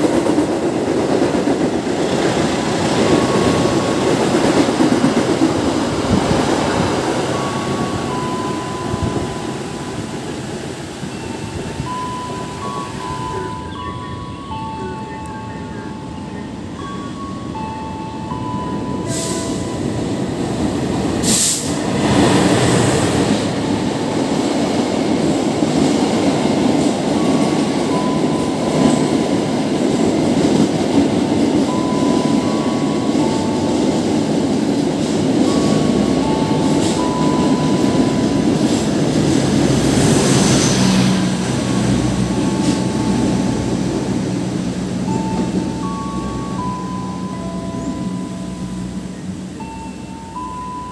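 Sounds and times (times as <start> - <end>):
train wheels and carriages rushing: 0.0 - 50.9.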